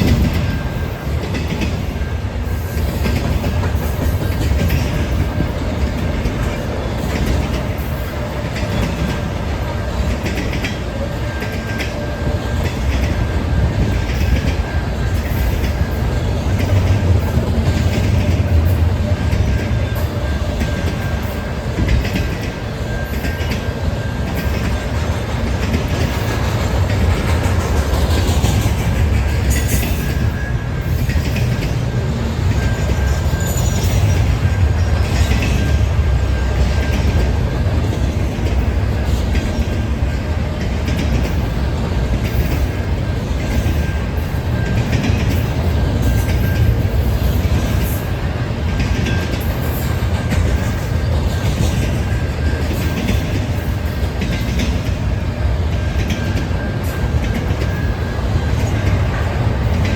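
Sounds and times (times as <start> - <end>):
freight train rumbling: 0.0 - 59.9
wheels clicking over rail joints: 0.0 - 59.9.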